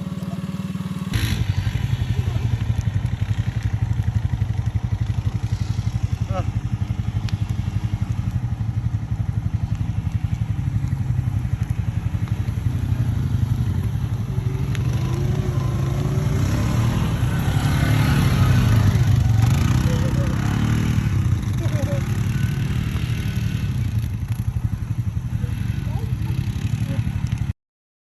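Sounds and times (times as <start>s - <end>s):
off-road vehicle engine running: 0.0s - 27.6s.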